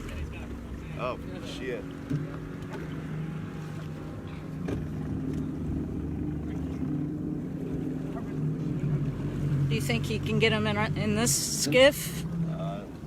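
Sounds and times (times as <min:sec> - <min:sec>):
outboard boat engine humming: 0:00.0 - 0:13.0.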